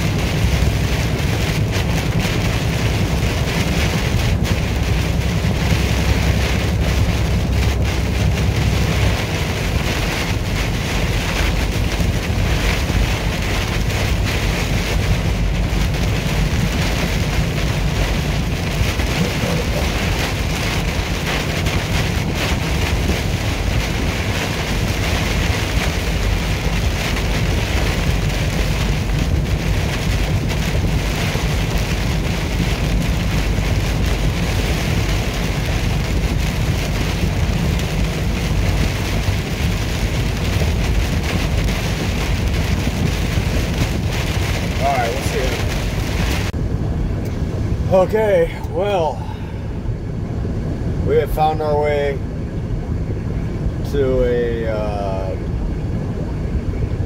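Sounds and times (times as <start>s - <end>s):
rain and wind against truck cab: 0.0s - 57.0s
road and engine rumble: 0.0s - 57.0s.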